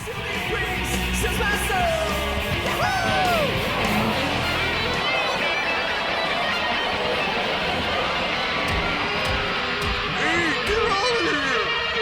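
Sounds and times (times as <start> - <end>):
rock band playing: 0.0 - 12.0
electric guitar bending notes: 0.1 - 12.0.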